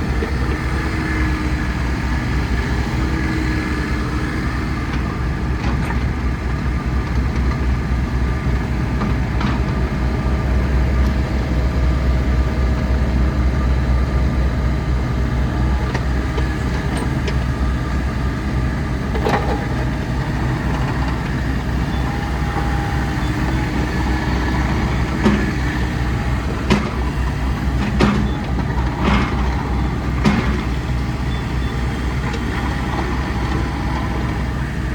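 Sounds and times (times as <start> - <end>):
mini excavator diesel engine: 0.0 - 34.9.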